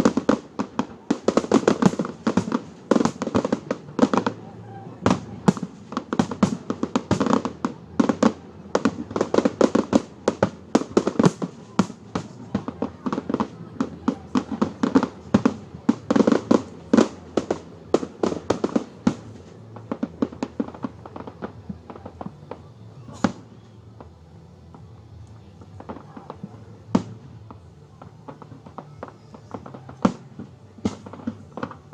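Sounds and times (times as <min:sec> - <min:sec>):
fireworks bangs and pops: 0:00.0 - 0:31.9.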